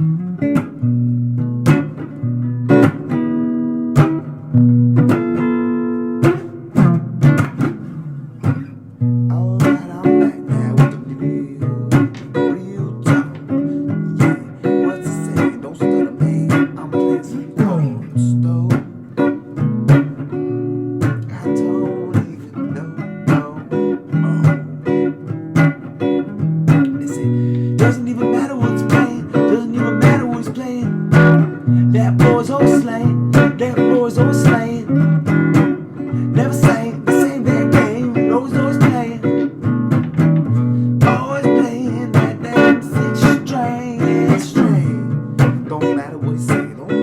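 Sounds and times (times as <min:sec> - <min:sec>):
blues guitar: 0:00.0 - 0:47.0.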